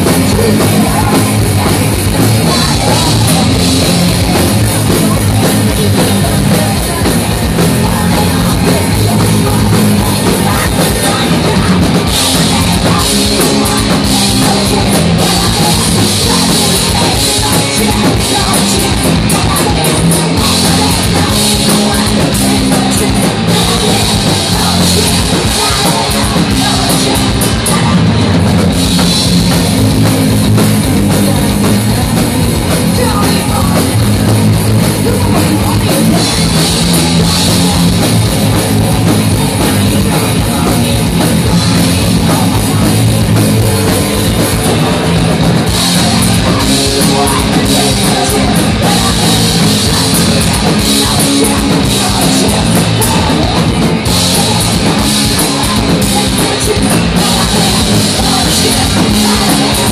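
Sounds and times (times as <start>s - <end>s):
bass guitar: 0.0s - 59.9s
drum kit: 0.0s - 59.9s
electric guitars: 0.0s - 59.9s
woman singing: 0.0s - 59.9s.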